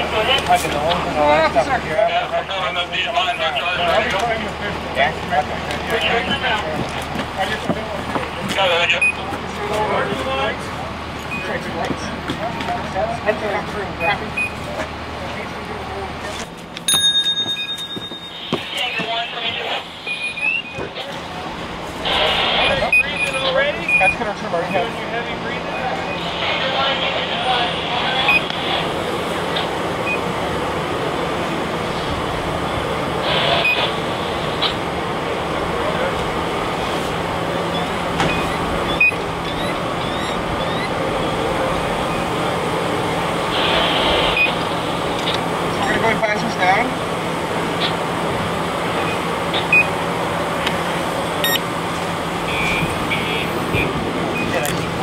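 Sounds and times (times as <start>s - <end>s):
fire engine pump droning: 0.0s - 55.0s.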